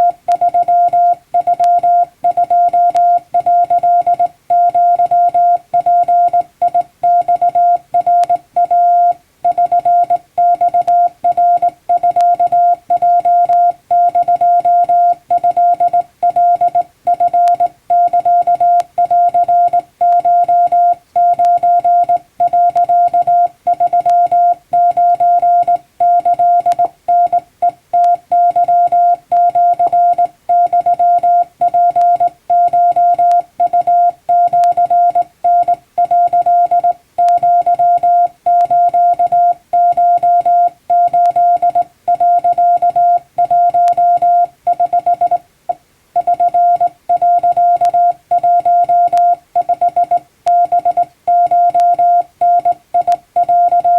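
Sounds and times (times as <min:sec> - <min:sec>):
morse code tone: 0:00.0 - 0:45.4, 0:46.2 - 0:53.9.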